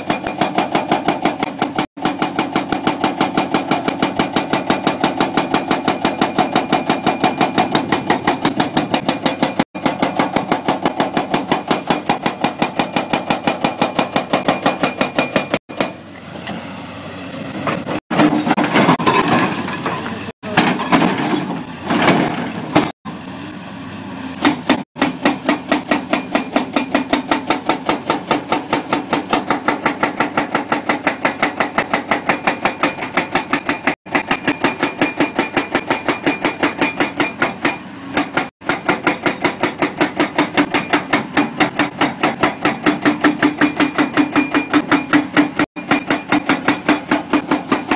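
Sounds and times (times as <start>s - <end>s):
hydraulic breaker hammering: 0.0s - 16.0s, 24.4s - 47.9s
machine noise and clatter: 0.0s - 16.6s, 17.3s - 23.0s, 24.3s - 47.9s.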